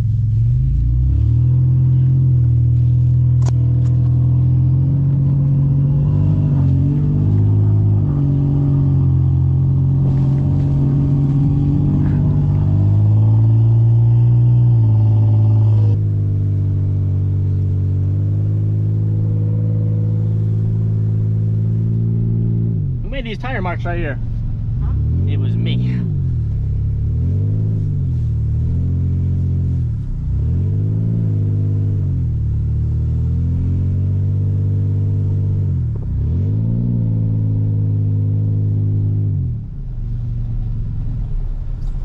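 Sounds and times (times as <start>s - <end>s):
pickup engine revving: 0.0s - 39.7s.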